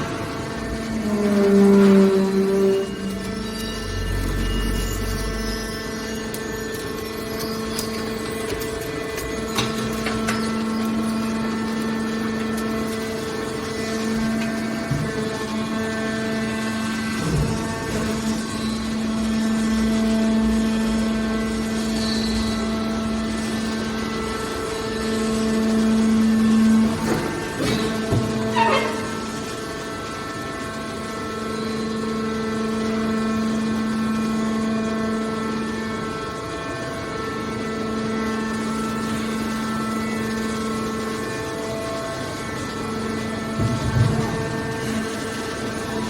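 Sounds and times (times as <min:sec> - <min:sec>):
hydraulic power unit humming: 0:00.0 - 0:46.0.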